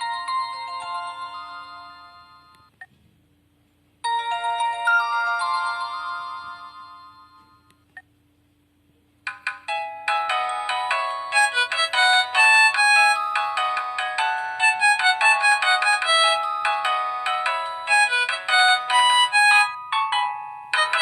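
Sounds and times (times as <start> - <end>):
phone ringtone melodies: 0.0 - 2.7, 4.0 - 7.7, 9.3 - 21.0.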